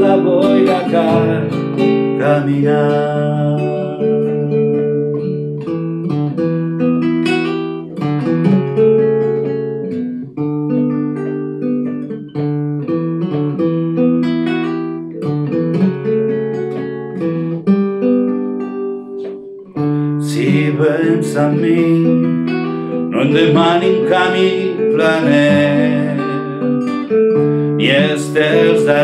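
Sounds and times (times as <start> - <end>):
classical guitar playing: 0.0 - 29.0.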